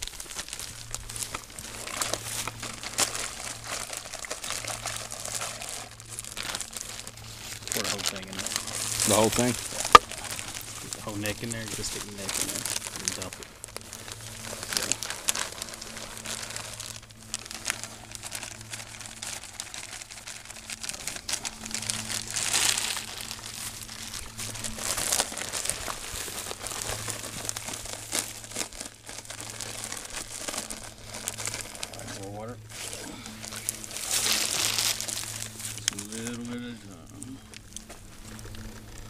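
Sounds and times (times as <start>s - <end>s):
plastic bag crinkling: 0.0s - 39.0s
steady low hum: 0.0s - 39.0s.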